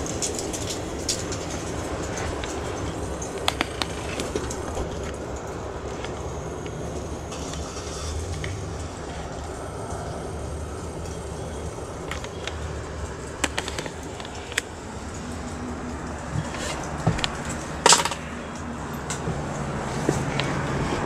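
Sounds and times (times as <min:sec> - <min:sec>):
large engine idling: 0:00.0 - 0:21.0.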